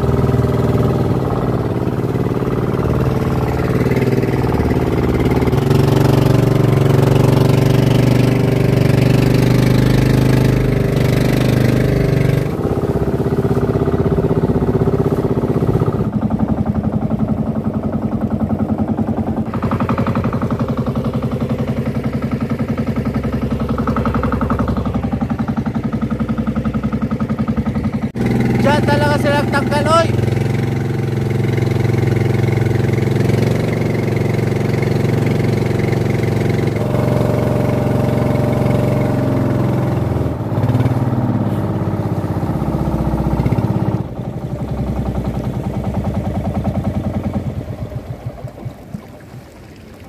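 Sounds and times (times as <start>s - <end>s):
boat engine running: 0.0s - 50.0s.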